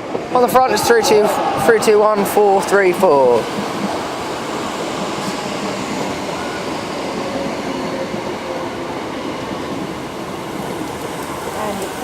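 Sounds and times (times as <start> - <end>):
train wheels on rail: 0.0 - 12.0.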